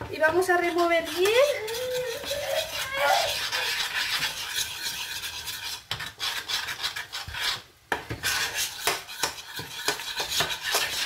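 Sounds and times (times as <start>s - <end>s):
metal spoon scraping saucepan: 0.2s - 11.0s.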